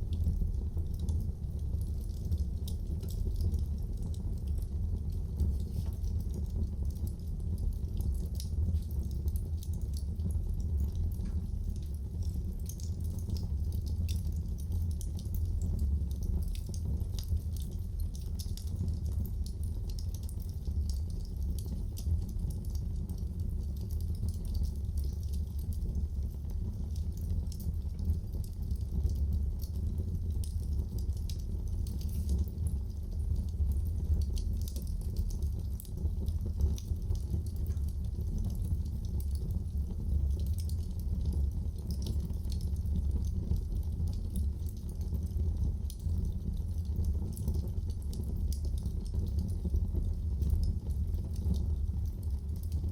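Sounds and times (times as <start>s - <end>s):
wood fire crackling in fireplace: 0.0s - 52.9s.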